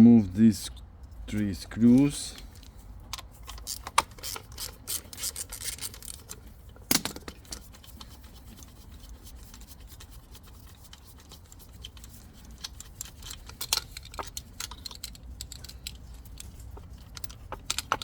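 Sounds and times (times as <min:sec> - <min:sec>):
hand tools clicking and scraping: 0:01.4 - 0:06.4, 0:07.0 - 0:18.0.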